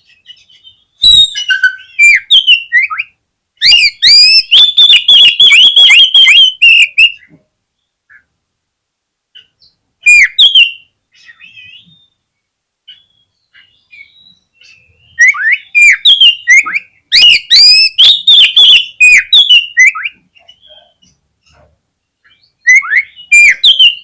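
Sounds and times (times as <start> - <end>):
bird song whistled notes: 0.0 - 8.3, 9.4 - 24.0
bird twittering: 0.0 - 8.3, 9.3 - 12.2, 12.9 - 21.6, 22.2 - 24.0.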